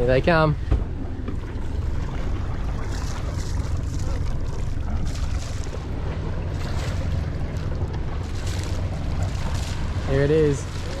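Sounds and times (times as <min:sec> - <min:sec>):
boat low rumble: 0:00.0 - 0:11.0.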